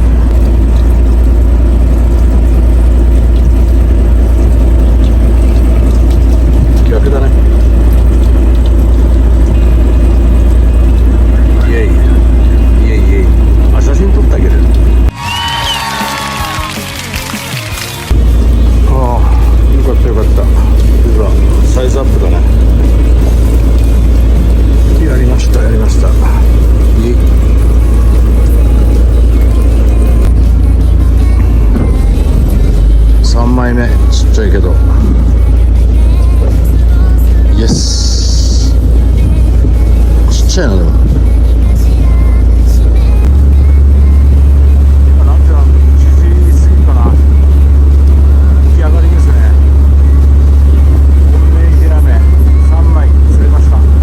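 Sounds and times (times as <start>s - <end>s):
boat engine idling: 0.0s - 54.0s
noisy water wash: 0.0s - 54.0s.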